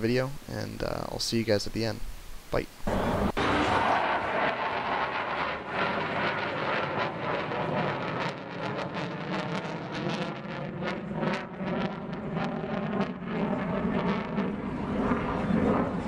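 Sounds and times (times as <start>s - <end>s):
crackles: 2.8s - 16.0s
outdoor rumble: 2.9s - 16.0s.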